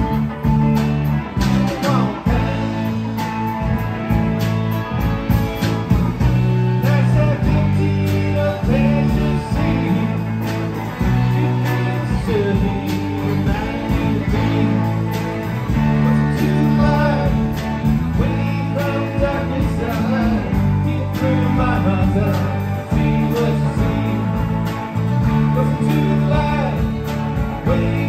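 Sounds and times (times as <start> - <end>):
drum kit beat: 0.0 - 28.0
electric bass: 0.0 - 28.0
electric guitars: 0.0 - 28.0
sliding bending guitar line: 0.0 - 28.0.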